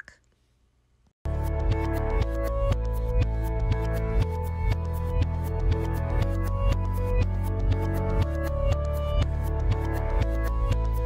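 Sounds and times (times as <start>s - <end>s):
background music with steady beat: 1.3s - 11.0s.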